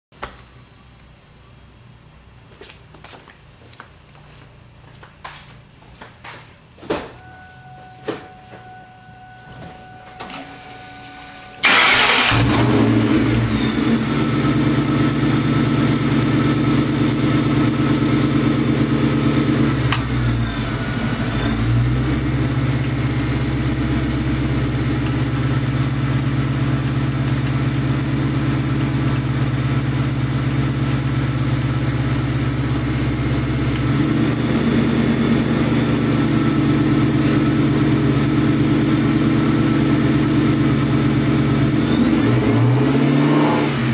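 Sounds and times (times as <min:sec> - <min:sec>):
high-pitched pulsing whine: 0:00.2 - 0:03.0, 0:06.8 - 0:43.9
car engine starting and idling: 0:07.2 - 0:43.9.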